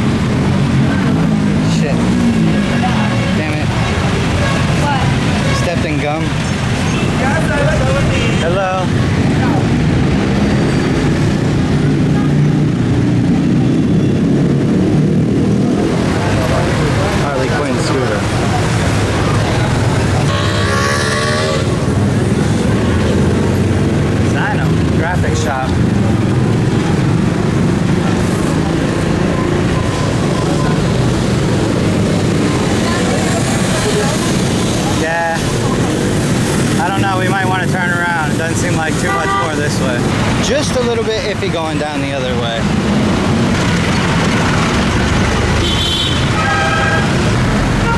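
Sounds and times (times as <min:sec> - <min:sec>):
street traffic: 0:00.0 - 0:47.9.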